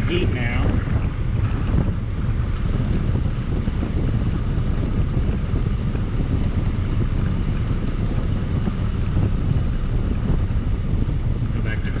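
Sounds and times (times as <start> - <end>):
air buffeting microphone: 0.0 - 12.0
car heater blower rushing air: 0.0 - 12.0.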